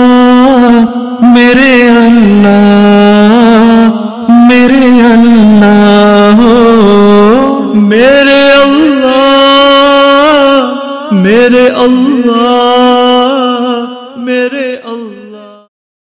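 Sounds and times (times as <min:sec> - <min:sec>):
person chanting solo: 0:00.0 - 0:15.7.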